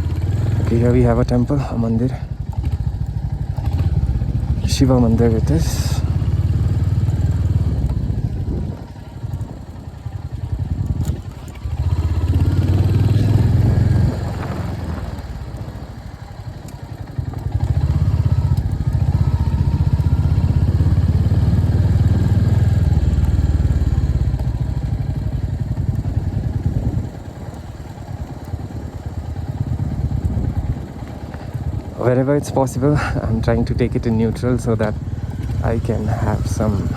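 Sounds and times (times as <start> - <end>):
motorcycle engine under throttle: 0.0 - 36.9.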